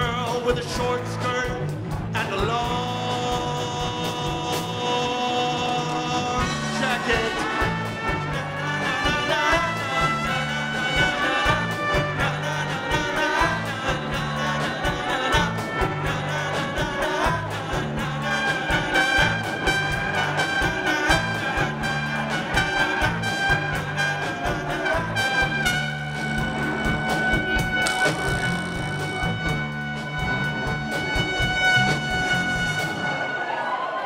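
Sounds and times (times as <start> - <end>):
bass guitar: 0.0 - 33.3
drums: 0.0 - 34.0
trumpet melody: 2.9 - 34.0.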